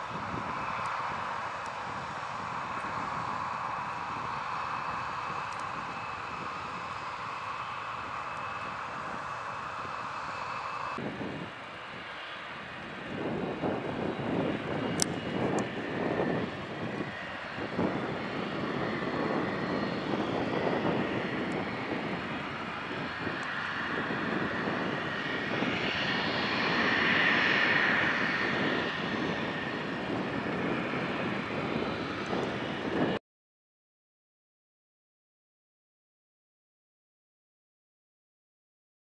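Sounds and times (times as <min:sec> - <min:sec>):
jet engines running: 0:00.0 - 0:33.2.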